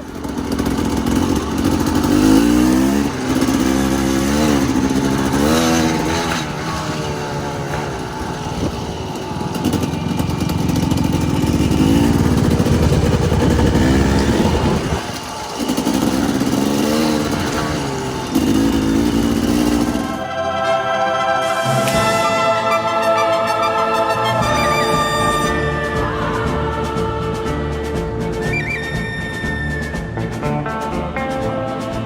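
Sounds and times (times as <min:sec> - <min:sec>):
dirt bike engine revving: 0:00.0 - 0:20.4, 0:21.4 - 0:32.0.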